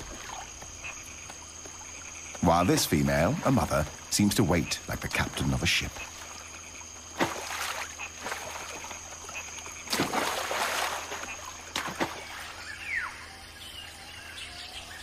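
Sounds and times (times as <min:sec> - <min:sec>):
water splashing: 0:00.0 - 0:04.6, 0:05.2 - 0:12.6
insect drone: 0:00.0 - 0:15.0.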